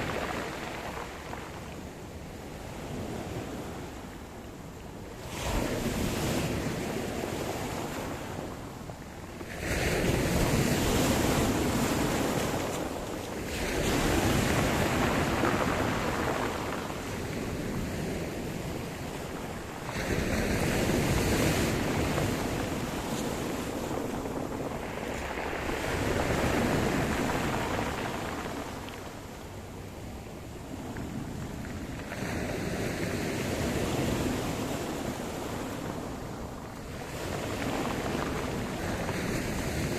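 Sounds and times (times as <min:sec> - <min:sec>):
waves breaking and washing in: 0:00.0 - 0:39.9
wind on microphone: 0:00.0 - 0:39.9.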